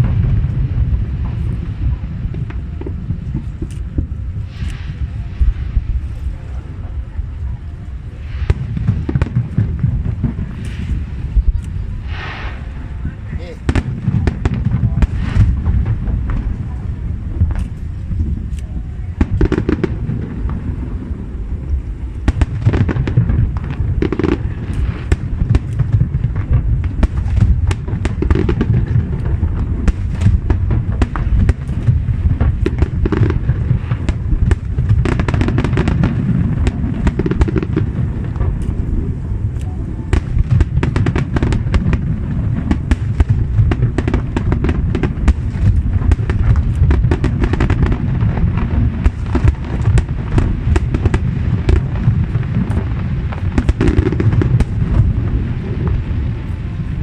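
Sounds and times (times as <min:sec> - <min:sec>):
fireworks booming: 0:00.0 - 0:57.0
fireworks cracks and crackles: 0:00.0 - 0:57.0.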